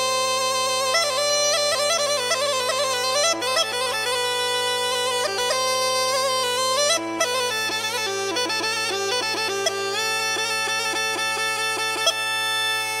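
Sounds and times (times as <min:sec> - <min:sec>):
bagpipe melody over drone: 0:00.0 - 0:13.0.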